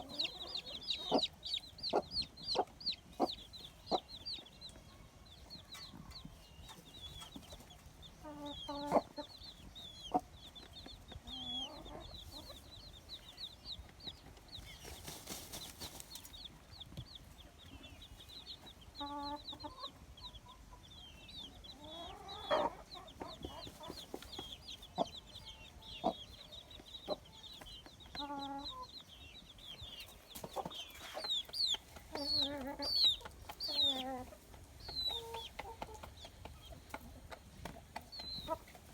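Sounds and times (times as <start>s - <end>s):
chicks peeping: 0.0s - 38.9s
hen clucking: 0.0s - 38.9s.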